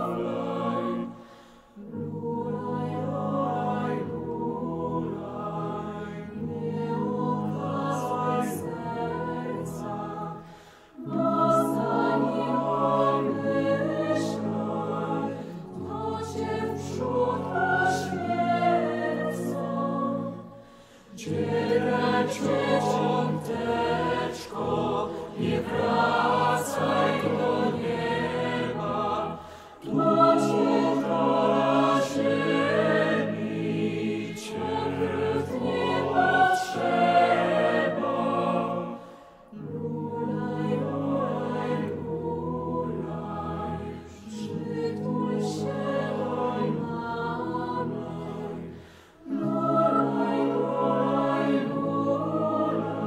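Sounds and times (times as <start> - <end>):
mixed choir singing: 0.0 - 53.0.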